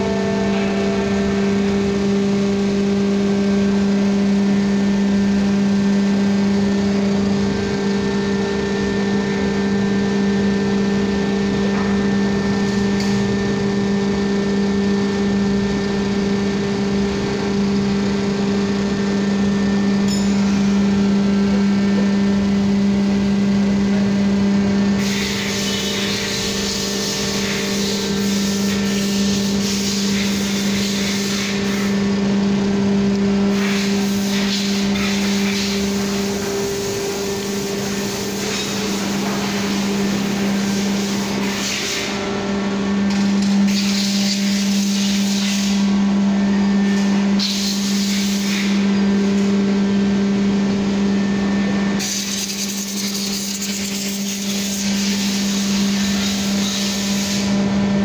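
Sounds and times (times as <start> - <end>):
hydraulic pump humming: 0.0 - 58.0.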